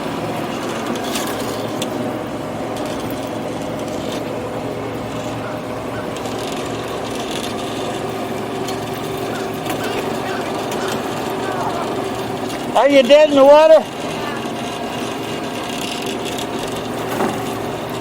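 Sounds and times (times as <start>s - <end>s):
small motor running: 0.0s - 18.0s.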